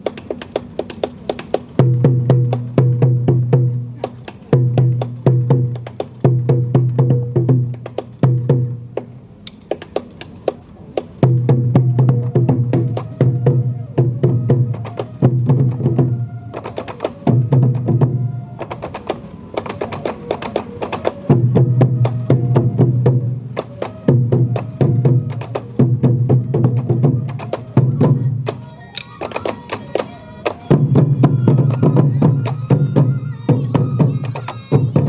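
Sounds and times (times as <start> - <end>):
taiko drums beating: 0.0 - 35.0.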